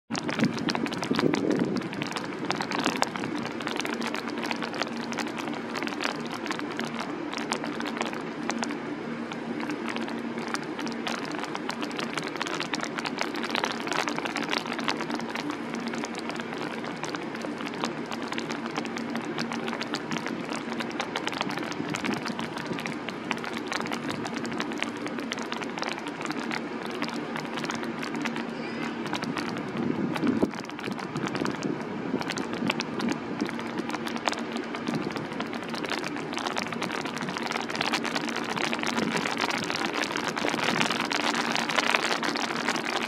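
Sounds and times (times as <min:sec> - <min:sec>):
rain drops ticking: 0:00.1 - 0:43.0
steady low hum: 0:00.1 - 0:43.0.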